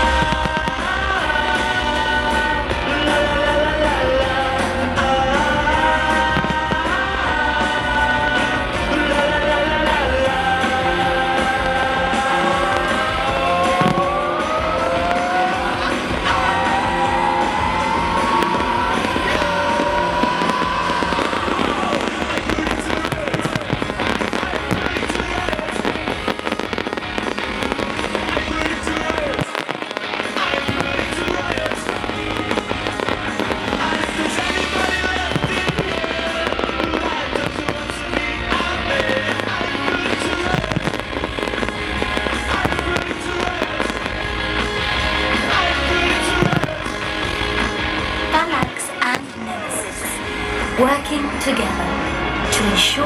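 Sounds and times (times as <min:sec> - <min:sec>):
fireworks popping and banging: 0:00.0 - 0:53.0
loud music over speakers: 0:00.0 - 0:53.0.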